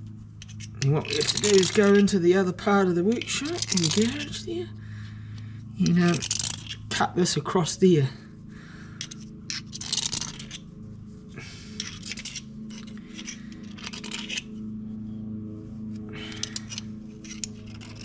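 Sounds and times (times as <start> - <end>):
metal scraping and rasping: 0.0 - 4.8, 5.8 - 18.0.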